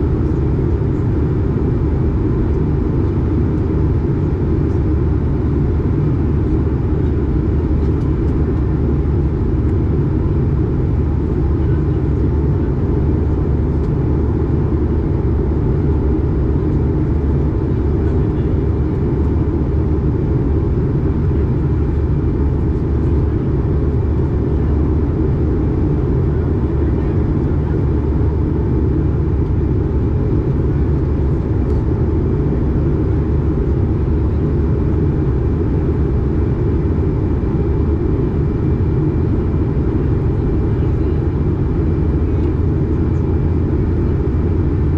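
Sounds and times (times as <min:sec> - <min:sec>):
jet engine drone in cabin: 0:00.0 - 0:44.9.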